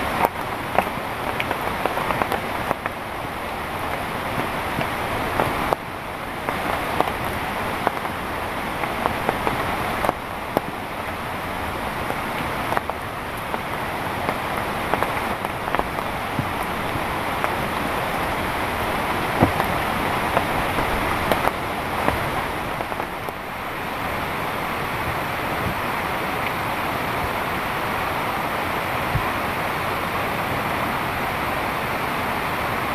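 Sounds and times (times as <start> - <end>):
heavy rain pattering: 0.0 - 32.9.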